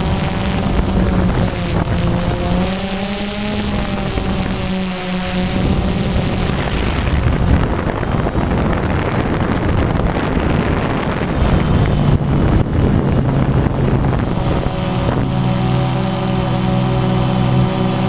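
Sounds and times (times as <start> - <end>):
drone propeller motors whirring: 0.0 - 18.0
wind buffeting microphone: 0.0 - 18.0.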